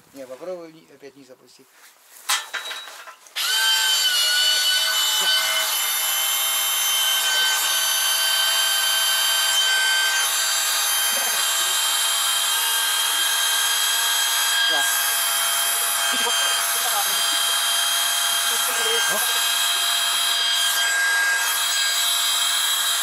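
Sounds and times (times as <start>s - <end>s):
electric drill whining: 3.4s - 23.0s.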